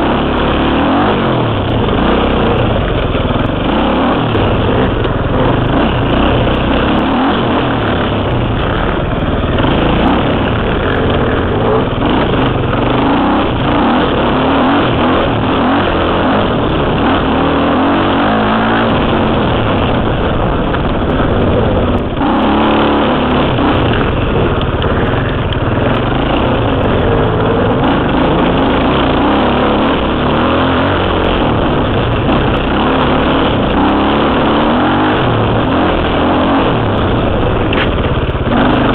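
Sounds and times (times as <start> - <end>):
two-stroke dirt bike engine revving: 0.0 - 38.9.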